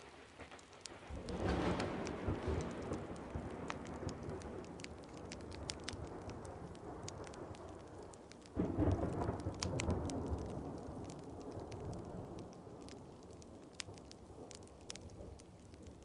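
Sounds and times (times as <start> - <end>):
steady rain: 0.0 - 16.0
wood fire crackling: 0.0 - 16.0
thunder rolling: 0.4 - 16.0.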